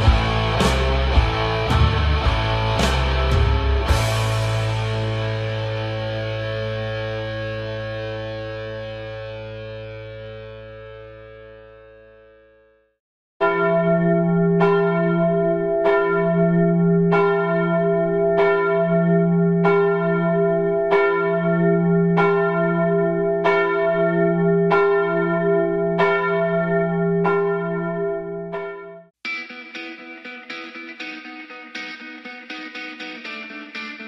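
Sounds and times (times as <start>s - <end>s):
church bell tolling: 0.0s - 12.0s, 13.4s - 29.1s.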